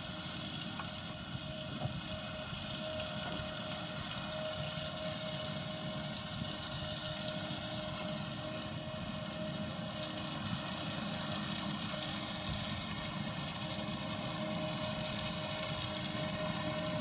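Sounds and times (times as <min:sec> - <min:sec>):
harvester engine drone: 0:00.0 - 0:17.0
steady machine whine: 0:00.0 - 0:17.0.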